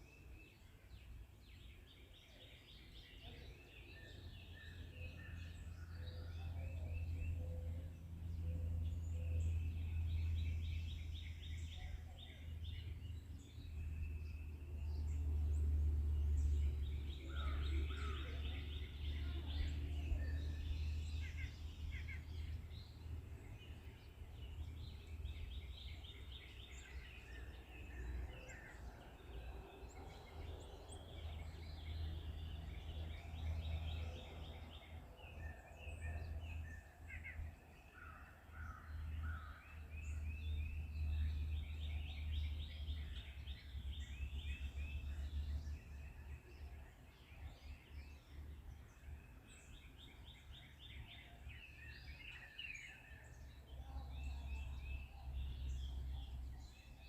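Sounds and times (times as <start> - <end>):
birds singing: 0.0 - 57.0.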